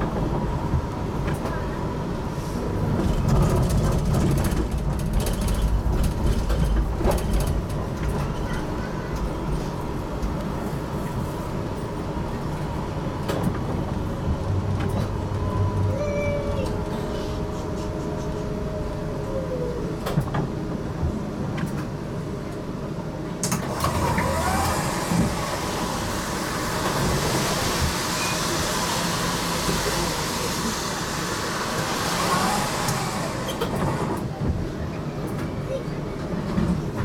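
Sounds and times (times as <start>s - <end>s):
tram rumbling on rails: 0.0s - 37.0s.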